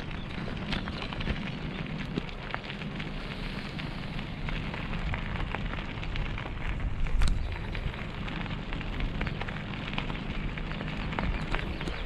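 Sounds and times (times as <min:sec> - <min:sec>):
bicycle tyres crunching on gravel: 0:00.0 - 0:12.0.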